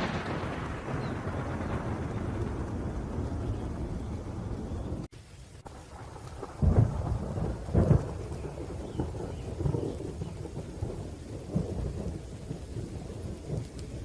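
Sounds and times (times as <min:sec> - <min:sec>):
rumbling thunder: 0:00.0 - 0:14.0
steady rain: 0:00.0 - 0:14.0.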